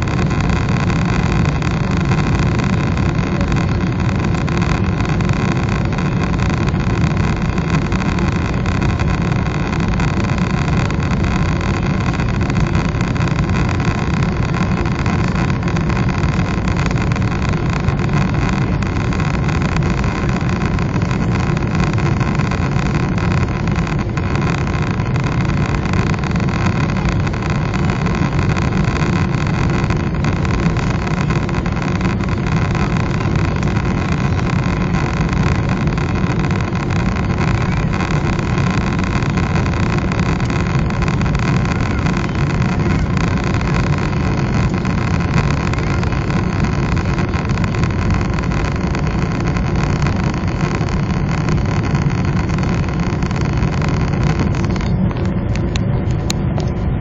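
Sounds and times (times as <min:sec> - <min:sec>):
airplane cabin engine and airflow noise: 0:00.0 - 0:57.0.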